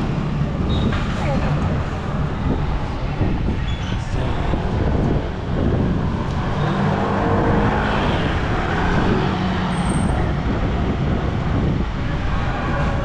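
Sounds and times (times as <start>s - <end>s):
steady traffic rumble: 0.0s - 13.0s.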